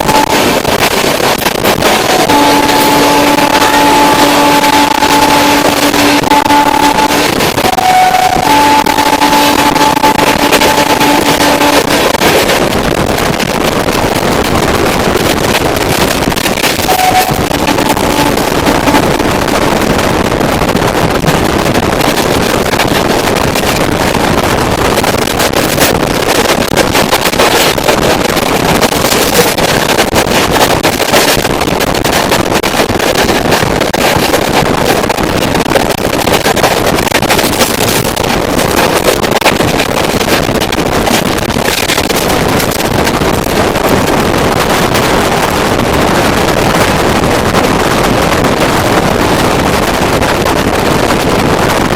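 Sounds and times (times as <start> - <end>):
crackles: 0.0 - 51.9
passenger train running: 0.0 - 51.9
wind on microphone: 0.0 - 51.9.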